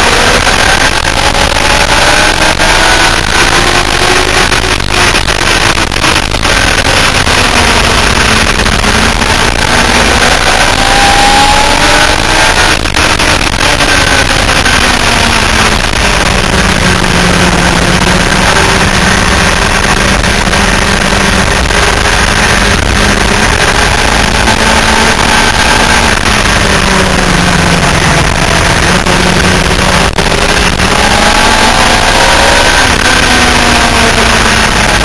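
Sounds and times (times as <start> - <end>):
motorcycle engine at speed: 0.0 - 35.0.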